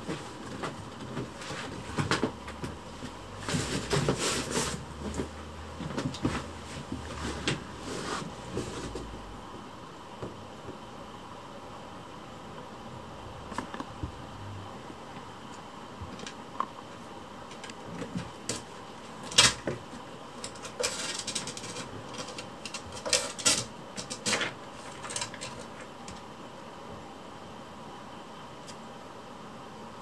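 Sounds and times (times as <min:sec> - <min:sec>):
faint room hiss: 0:00.0 - 0:30.0.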